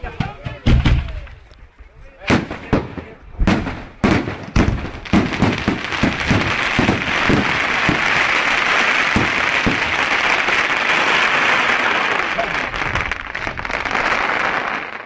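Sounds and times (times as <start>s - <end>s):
fireworks crackling: 2.2s - 15.0s.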